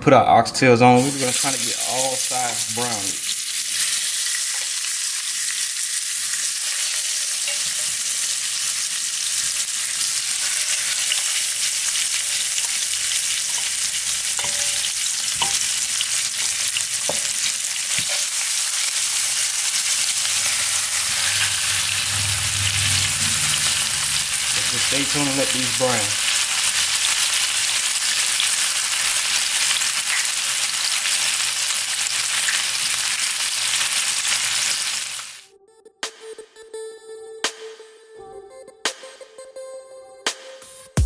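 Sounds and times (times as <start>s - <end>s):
meat sizzling in oil: 1.0s - 35.4s.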